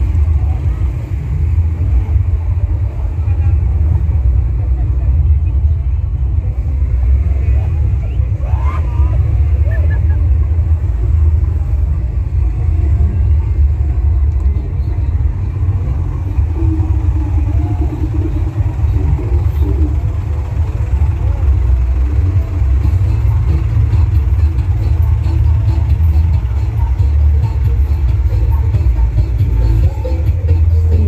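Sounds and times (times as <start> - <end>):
deep bass rumble from speakers: 0.0 - 31.0.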